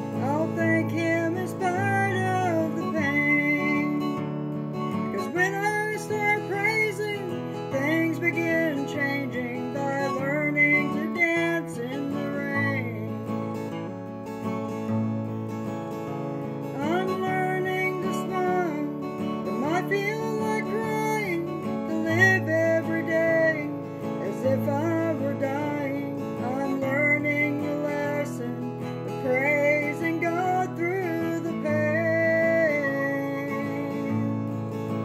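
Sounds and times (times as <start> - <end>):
woman singing: 0.0 - 4.3, 4.9 - 13.4, 16.6 - 35.0
acoustic guitar strumming: 0.0 - 35.0.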